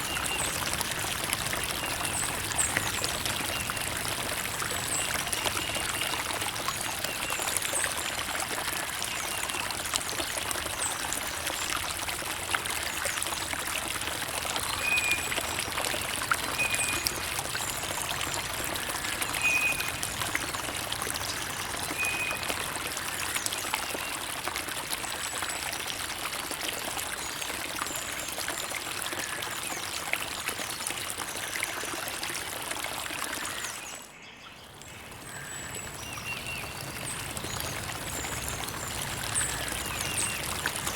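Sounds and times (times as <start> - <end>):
creek water trickling over stones: 0.0 - 40.9.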